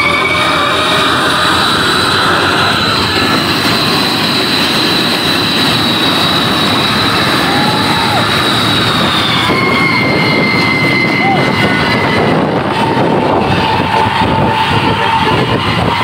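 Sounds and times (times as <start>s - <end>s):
bus engine running loudly: 0.0s - 16.0s
high steady whine: 0.0s - 16.0s.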